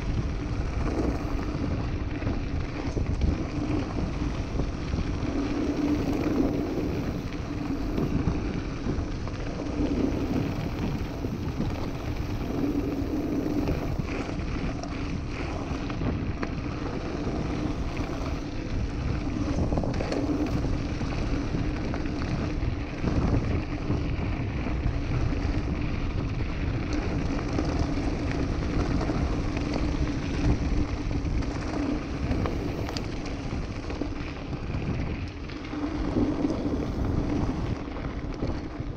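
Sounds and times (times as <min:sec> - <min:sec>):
bike tyres crunching on gravel: 0:00.0 - 0:38.9
wind noise on microphone: 0:00.0 - 0:38.9.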